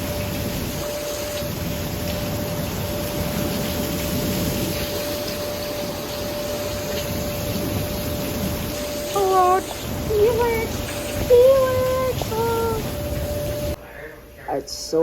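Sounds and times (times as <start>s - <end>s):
heavy rain pouring: 0.0s - 13.8s
thin steady tone: 0.0s - 15.0s.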